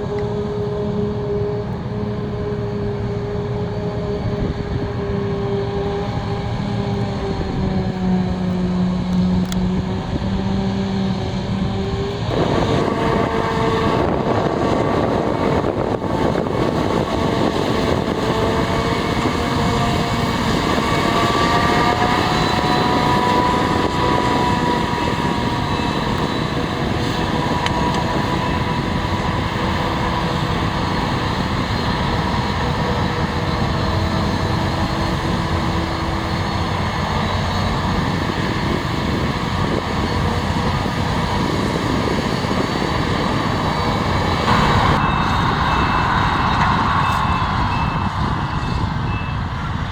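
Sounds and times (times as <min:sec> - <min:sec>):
diesel farm machinery droning: 0:00.0 - 0:49.9.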